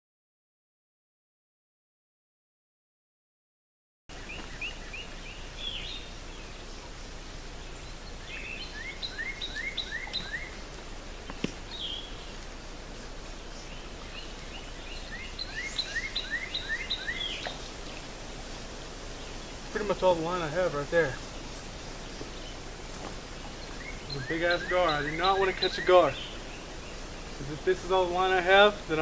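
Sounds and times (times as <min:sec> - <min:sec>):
outdoor background noise: 0:04.1 - 0:29.0
songbird singing: 0:04.1 - 0:29.0.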